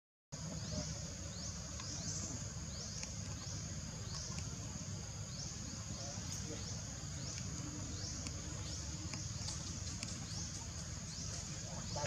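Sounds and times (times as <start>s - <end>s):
insects buzzing and chirping: 0.4s - 12.0s.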